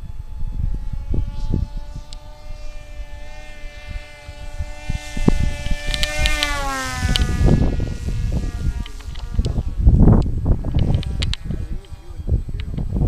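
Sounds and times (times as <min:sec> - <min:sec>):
model plane motor whining: 0:00.0 - 0:13.0
wind rumbling on microphone: 0:00.0 - 0:13.0.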